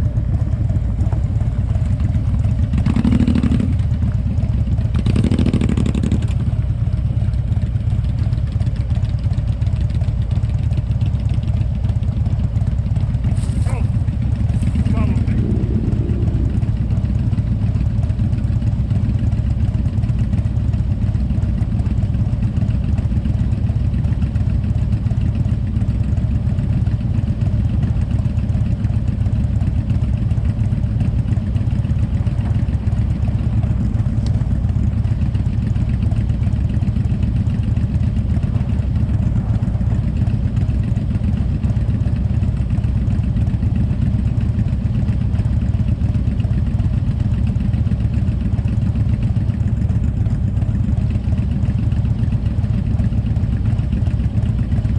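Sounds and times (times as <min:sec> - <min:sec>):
motorcycle engine droning: 0:00.0 - 0:54.9.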